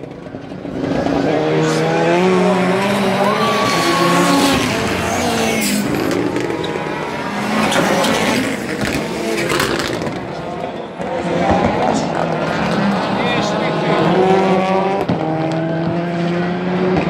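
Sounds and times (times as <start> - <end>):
gravel and tyre noise: 0.0 - 17.0
racing car engines revving: 0.0 - 17.0.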